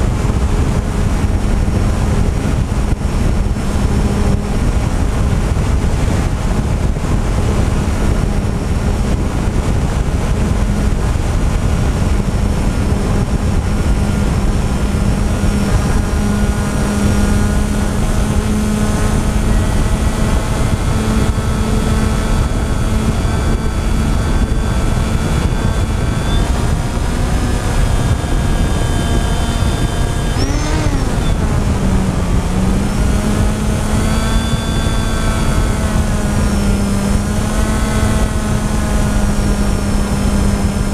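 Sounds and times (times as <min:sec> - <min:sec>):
drone propellers whining: 0:00.0 - 0:40.9
wind rumble on microphone: 0:00.0 - 0:40.9.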